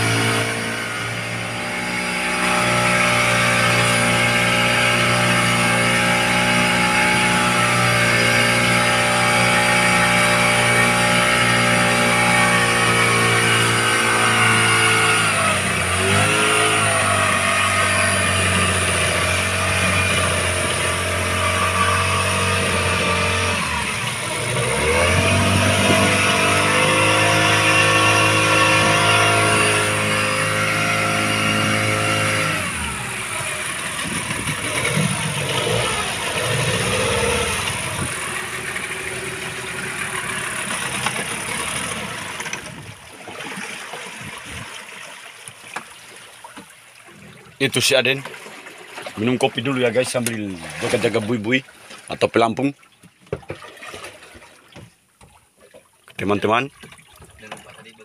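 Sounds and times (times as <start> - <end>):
boat motor running: 0.0 - 44.8, 46.6 - 55.4
water washing along hull: 0.0 - 58.0.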